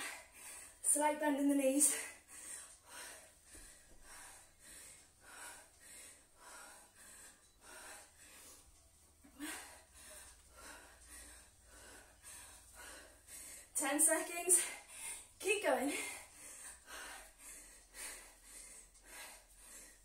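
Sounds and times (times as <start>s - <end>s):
woman breathing hard: 0.0s - 0.8s, 1.9s - 13.8s, 14.5s - 20.0s.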